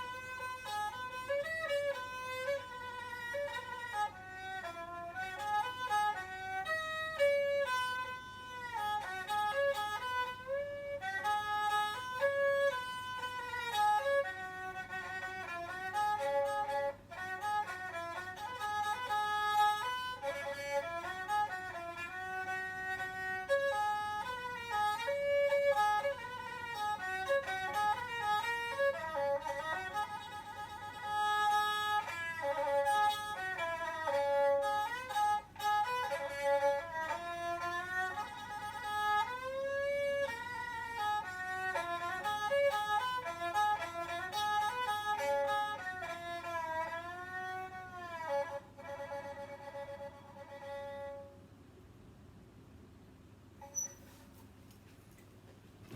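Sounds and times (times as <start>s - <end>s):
solo bowed fiddle melody: 0.0s - 51.5s.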